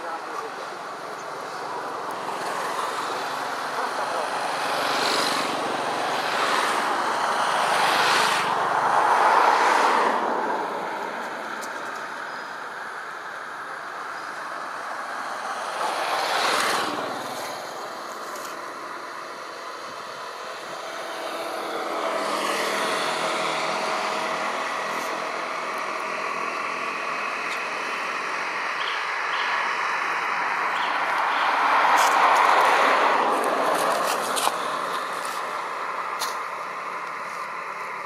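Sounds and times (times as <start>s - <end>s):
engine hum: 0.0s - 38.0s
vehicles passing: 0.0s - 38.0s.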